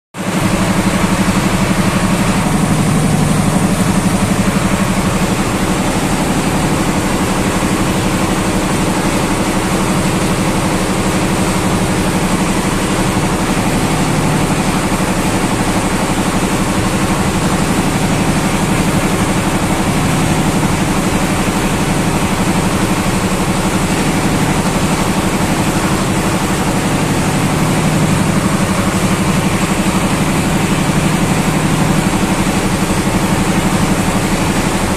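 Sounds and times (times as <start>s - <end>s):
engine running steadily: 0.2s - 34.9s.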